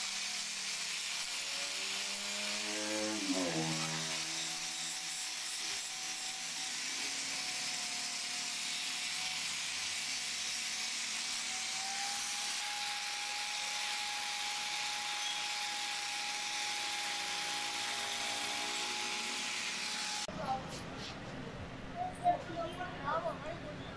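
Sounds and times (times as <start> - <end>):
angle grinder grinding steel: 0.0 - 20.3.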